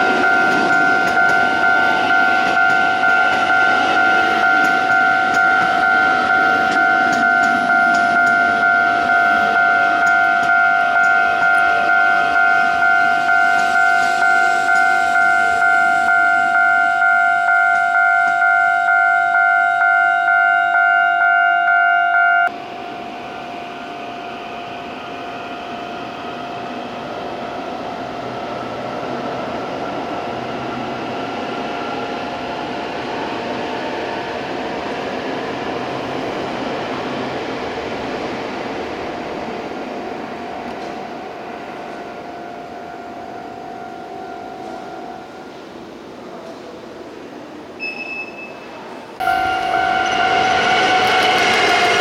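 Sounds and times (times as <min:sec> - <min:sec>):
train wheels on rails: 0:00.0 - 0:20.9, 0:22.4 - 0:52.0.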